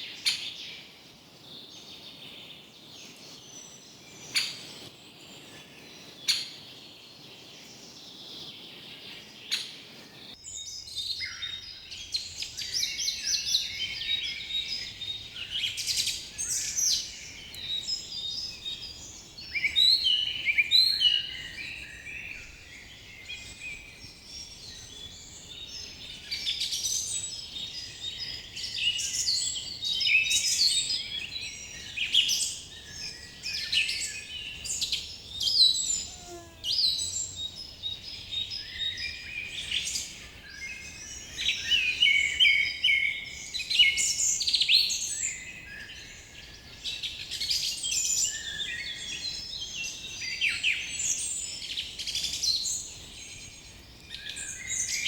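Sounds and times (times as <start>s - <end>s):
small birds chirping chorus: 0.0s - 55.0s.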